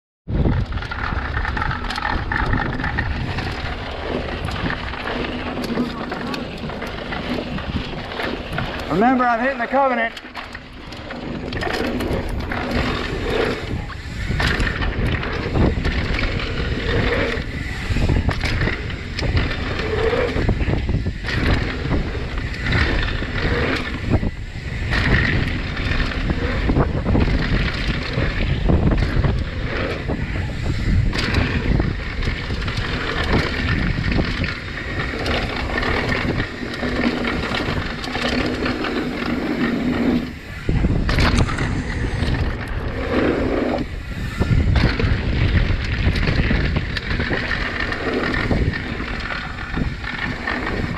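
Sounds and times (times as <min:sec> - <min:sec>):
bike knocking and rattling: 0:00.3 - 0:50.9
knobby tyres rolling over dirt: 0:00.3 - 0:50.9
wind buffeting microphone: 0:00.3 - 0:50.9.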